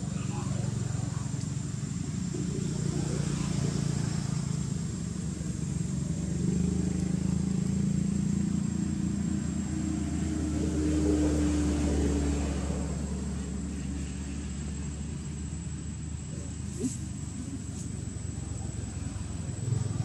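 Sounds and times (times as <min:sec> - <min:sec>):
motor vehicle passing: 0:00.0 - 0:20.0.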